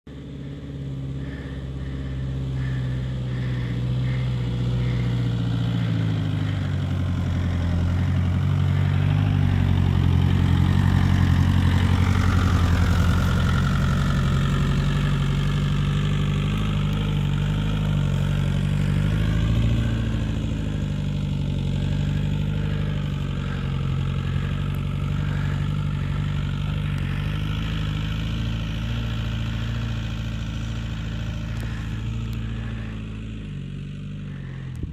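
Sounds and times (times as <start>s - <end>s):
van engine running under load: 0.0s - 34.9s.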